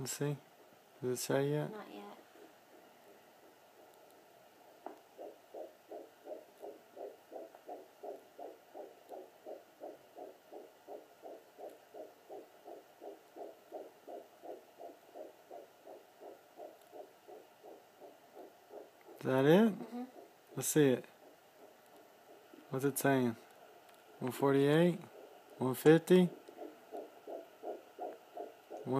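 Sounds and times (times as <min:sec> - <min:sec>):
fetal heartbeat pulse: 0:02.2 - 0:28.9.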